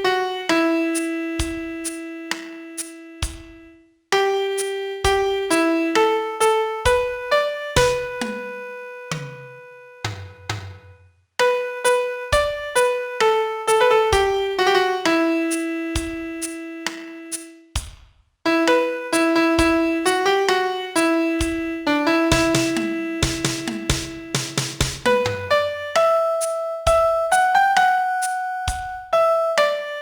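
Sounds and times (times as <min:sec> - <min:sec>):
piano melody: 0:00.0 - 0:03.6, 0:04.2 - 0:10.5, 0:11.4 - 0:17.5, 0:18.5 - 0:30.0.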